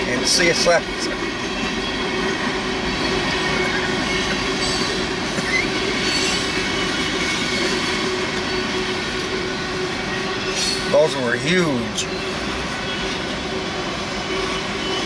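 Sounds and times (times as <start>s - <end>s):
freight train wheels rumbling: 0.0s - 15.0s
train wheel squeal: 0.0s - 15.0s.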